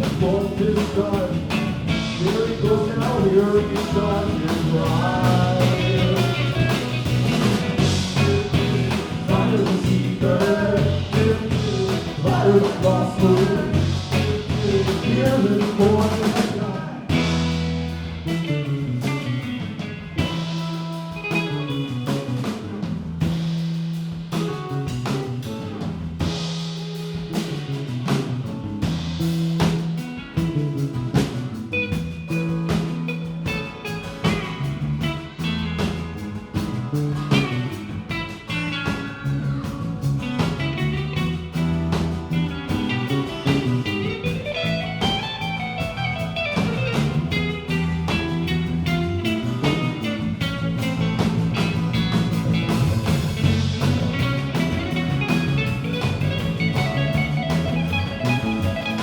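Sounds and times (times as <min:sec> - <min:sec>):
electric guitar bending notes: 0:00.0 - 0:22.9, 0:30.0 - 0:59.0
drum kit beat: 0:00.0 - 0:59.0.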